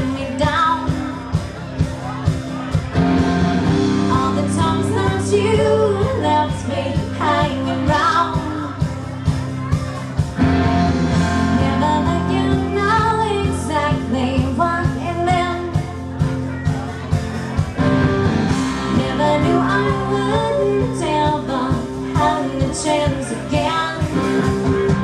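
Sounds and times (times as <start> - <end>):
live rock band playing: 0.0 - 25.0
steady drum beat: 0.0 - 25.0.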